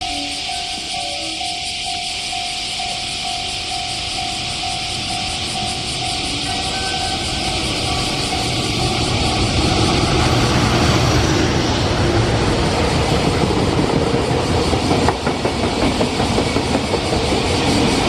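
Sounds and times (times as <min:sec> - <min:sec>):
freight train passing: 0:00.0 - 0:18.0
wheels clattering over rail joints: 0:02.2 - 0:18.0.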